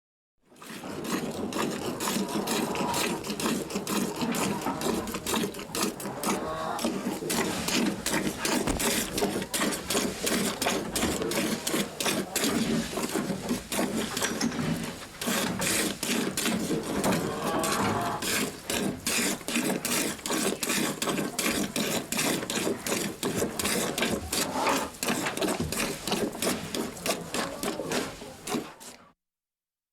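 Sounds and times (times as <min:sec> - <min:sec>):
milk spurts: 0:00.5 - 0:14.5, 0:15.2 - 0:29.1.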